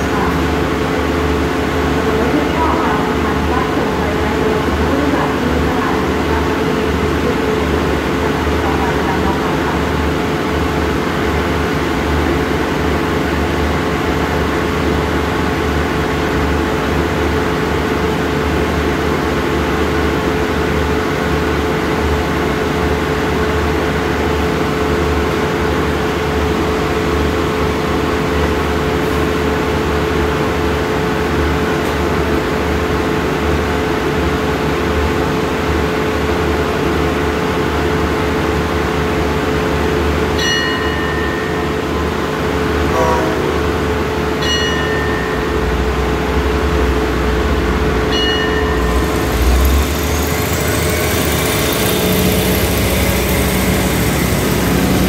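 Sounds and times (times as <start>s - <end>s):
diesel train engine idling: 0.0s - 55.0s.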